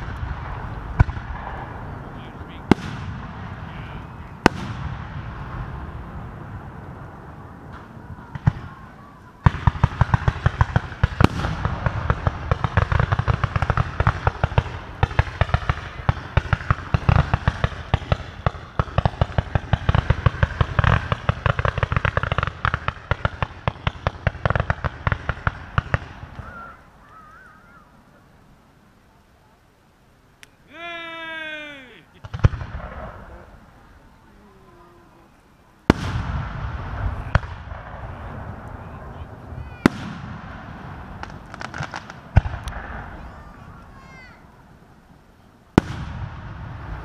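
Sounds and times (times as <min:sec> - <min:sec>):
fireworks exploding: 0:00.0 - 0:27.0, 0:30.7 - 0:47.0.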